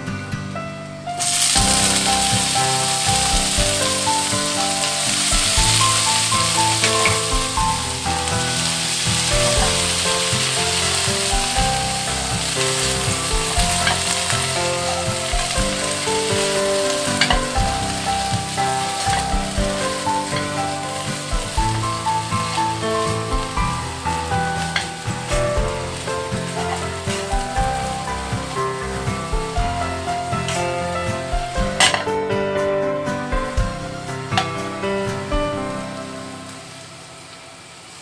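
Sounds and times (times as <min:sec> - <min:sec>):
greens sizzling in hot oil: 0:01.2 - 0:32.4, 0:33.0 - 0:38.0.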